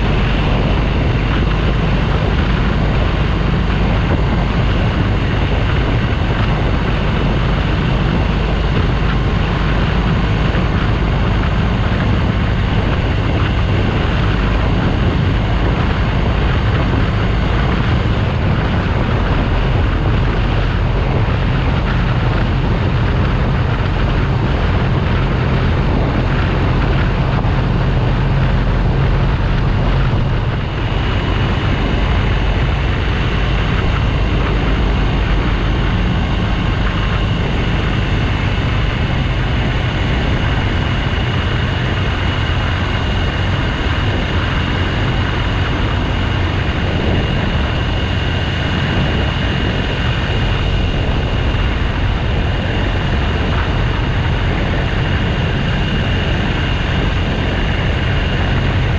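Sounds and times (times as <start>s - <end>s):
motorcycle engine droning: 0.0s - 58.9s
wind noise on microphone: 0.0s - 58.9s.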